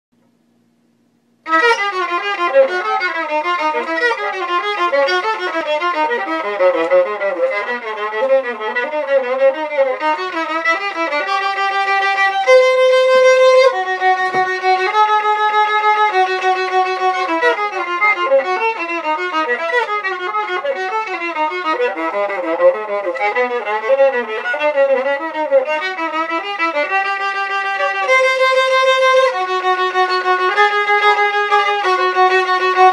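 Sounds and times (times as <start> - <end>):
solo violin: 1.4 - 32.9.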